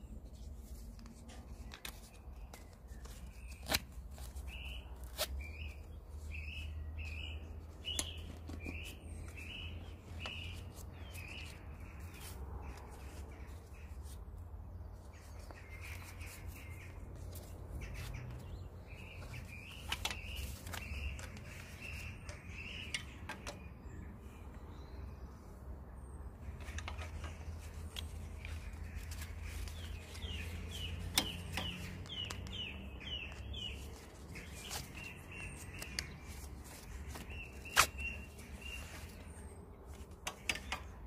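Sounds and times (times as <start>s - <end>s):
buckles clicking and webbing rustling: 0.2s - 14.2s, 15.3s - 23.7s, 26.4s - 41.0s.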